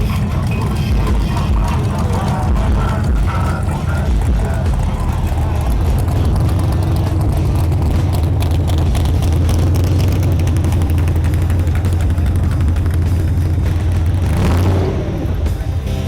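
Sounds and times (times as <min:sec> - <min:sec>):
car engine with rough exhaust: 0:00.0 - 0:16.0.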